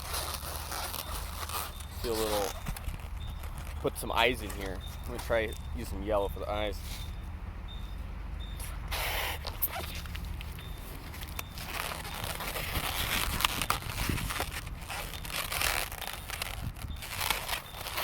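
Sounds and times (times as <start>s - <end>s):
balloons rubbing and squeaking: 0.0s - 7.2s, 8.5s - 18.0s.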